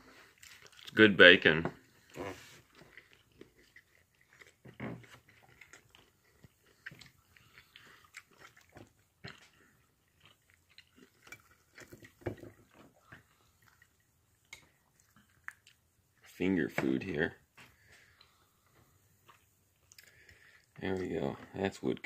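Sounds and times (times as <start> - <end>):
chewing: 0.1 - 1.0, 1.8 - 16.3, 17.7 - 21.2.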